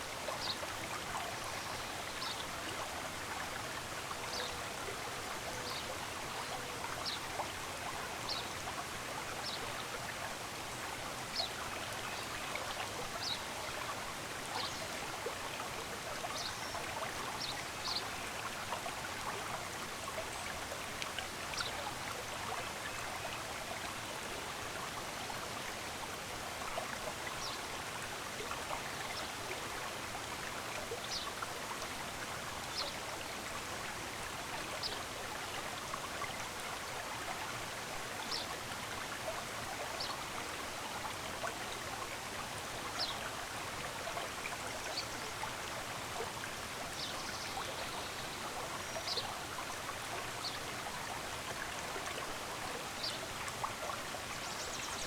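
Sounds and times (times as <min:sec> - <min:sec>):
stream running water: 0:00.0 - 0:55.0.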